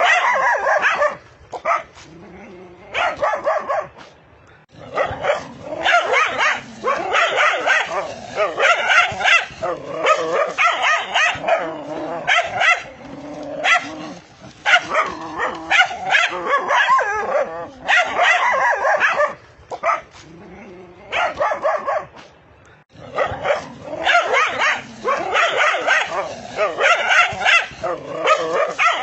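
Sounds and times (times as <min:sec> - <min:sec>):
dogs barking fiercely: 0:00.0 - 0:20.4, 0:21.0 - 0:22.3, 0:22.9 - 0:29.0.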